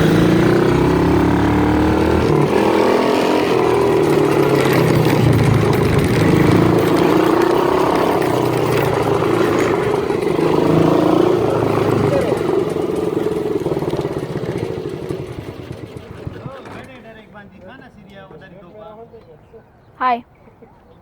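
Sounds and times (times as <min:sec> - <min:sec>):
quad bike engine running: 0:00.0 - 0:17.2.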